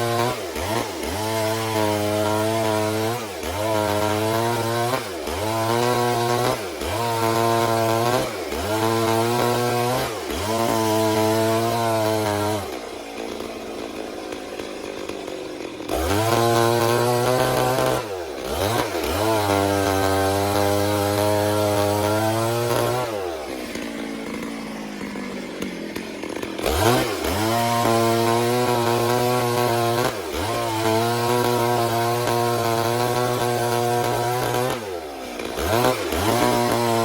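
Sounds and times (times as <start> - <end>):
chainsaw cutting log: 0.0 - 37.0.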